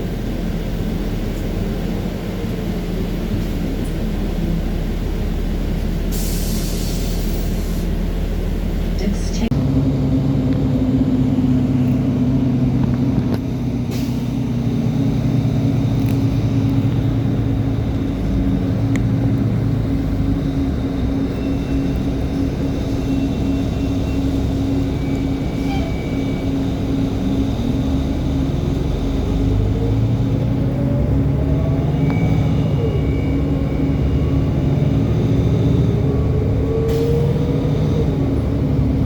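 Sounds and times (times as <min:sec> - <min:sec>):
bus engine humming: 0:00.0 - 0:39.0.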